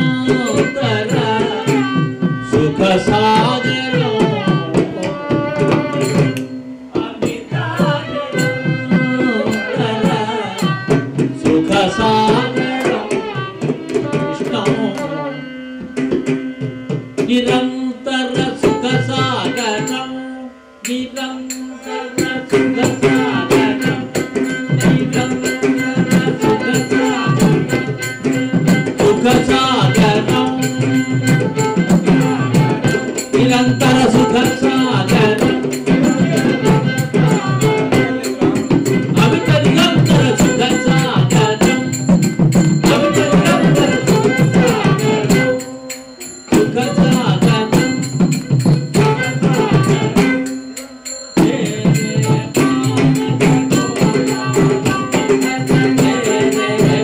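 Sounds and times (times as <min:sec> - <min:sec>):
man singing: 0:00.0 - 0:15.6, 0:17.2 - 0:57.0
jingling hand percussion: 0:00.0 - 0:57.0.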